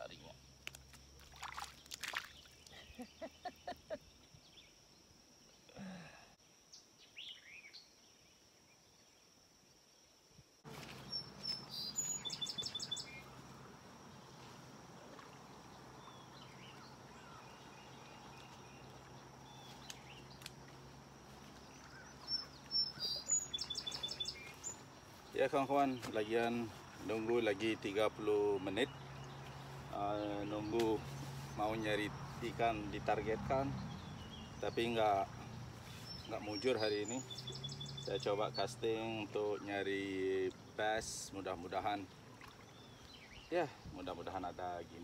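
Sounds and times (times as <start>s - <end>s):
songbird singing: 0.0s - 45.0s
steady outdoor hiss: 0.0s - 45.0s.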